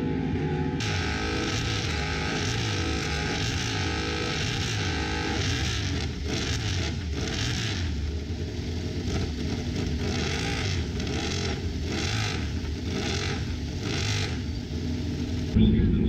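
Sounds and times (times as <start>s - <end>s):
motorcycle engines revving: 0.0s - 15.6s.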